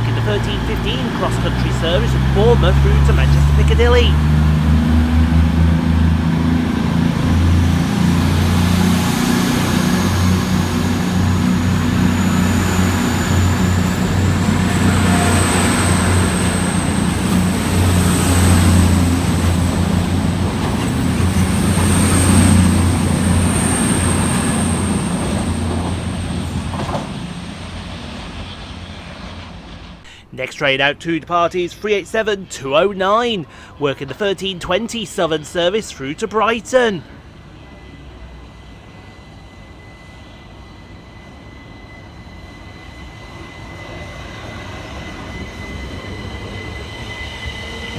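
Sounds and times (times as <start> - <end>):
diesel train engines droning: 0.0 - 47.9.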